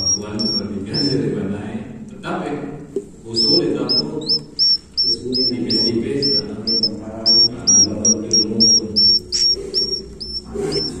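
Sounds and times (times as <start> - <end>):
bird chicks chirping: 0.0 - 1.3, 3.3 - 11.0.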